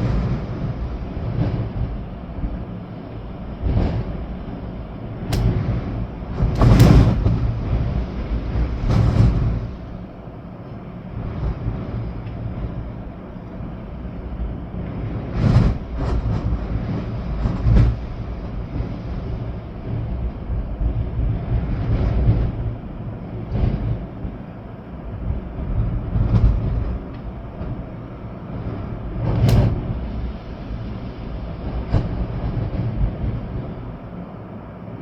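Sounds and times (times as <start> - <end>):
wind buffeting microphone: 0.0 - 10.4, 11.0 - 35.0
wind gusting through trees: 0.0 - 35.0.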